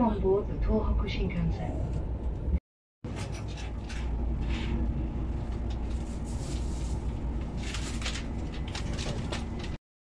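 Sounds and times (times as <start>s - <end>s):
low rumble with equipment hum: 0.0s - 9.8s.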